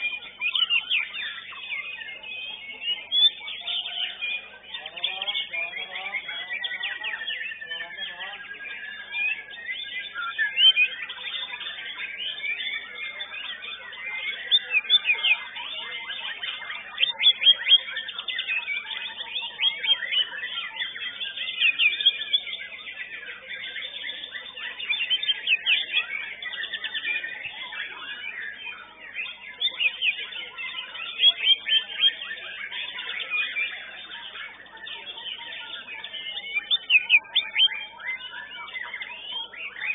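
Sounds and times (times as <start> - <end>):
other birds singing: 0.0 - 39.9.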